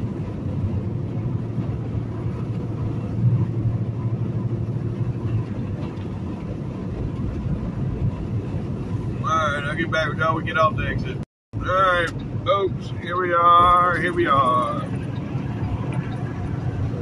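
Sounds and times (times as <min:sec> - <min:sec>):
truck engine and tyre drone: 0:00.0 - 0:17.0.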